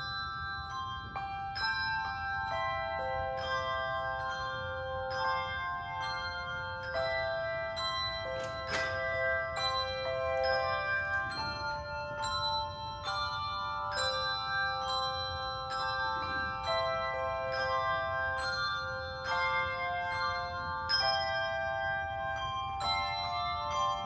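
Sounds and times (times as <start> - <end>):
church bells playing a tune: 0.0 - 24.0.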